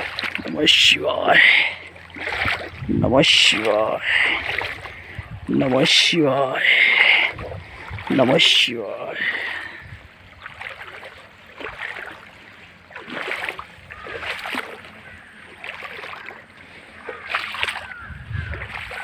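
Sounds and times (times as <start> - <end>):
footsteps splashing through stream: 0.0 - 19.0.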